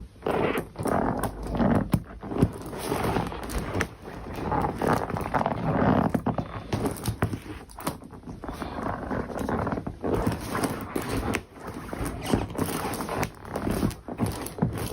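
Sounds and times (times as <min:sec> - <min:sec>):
rubber boots squeaking: 0:00.0 - 0:14.9.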